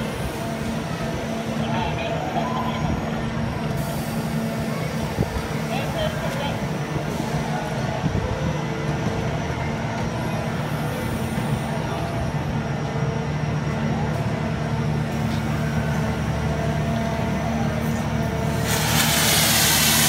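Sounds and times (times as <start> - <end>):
diesel engine low drone: 0.0 - 20.0.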